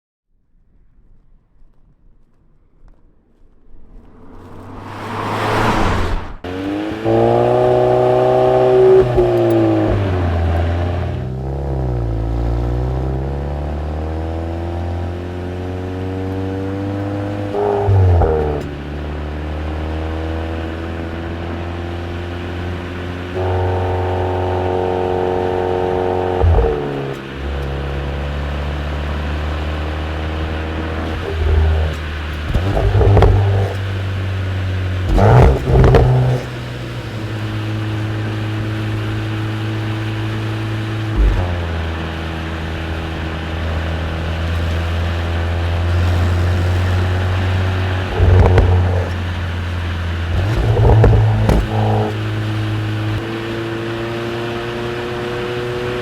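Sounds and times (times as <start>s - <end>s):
car engine accelerating and shifting: 3.8s - 56.0s.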